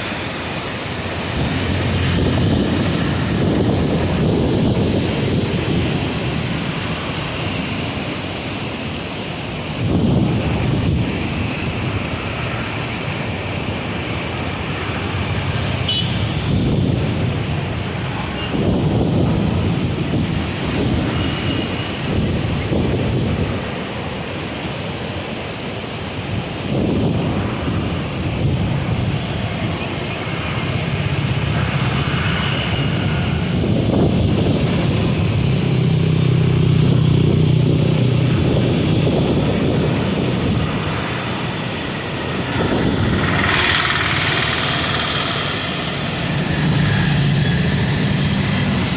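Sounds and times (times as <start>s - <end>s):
water rushing through gates: 0.0s - 48.9s
wind buffeting microphone: 0.0s - 48.9s.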